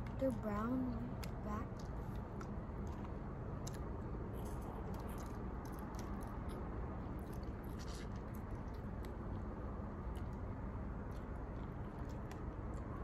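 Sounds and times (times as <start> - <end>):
chewing and mouth smacks: 1.1 - 13.0.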